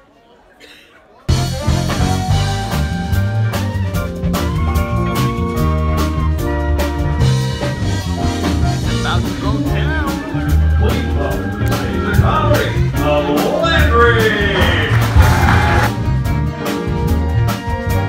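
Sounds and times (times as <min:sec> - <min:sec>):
drum kit beat: 0:01.3 - 0:18.0
electric keyboard chords: 0:01.3 - 0:18.0
sliding lead melody: 0:01.3 - 0:18.0.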